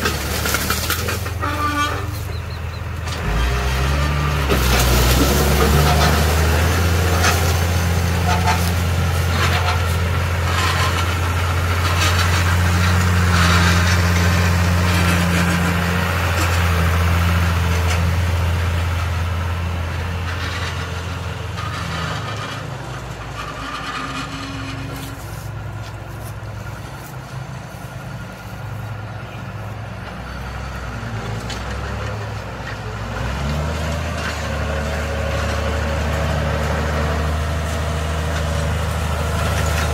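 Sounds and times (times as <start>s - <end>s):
discs crackling through soil: 0.0s - 39.9s
tractor diesel engine running: 0.0s - 39.9s.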